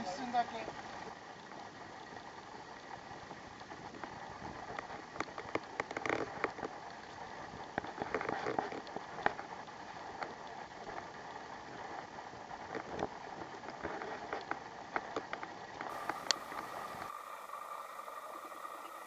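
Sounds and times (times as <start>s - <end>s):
stream trickling over rocks: 0.0s - 19.0s
sharp clicks and crackles: 3.6s - 19.0s.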